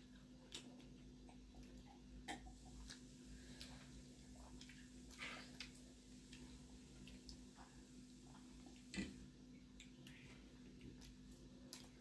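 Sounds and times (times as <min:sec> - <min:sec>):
low steady hum: 0:00.0 - 0:12.0
people eating by hand: 0:00.0 - 0:12.0.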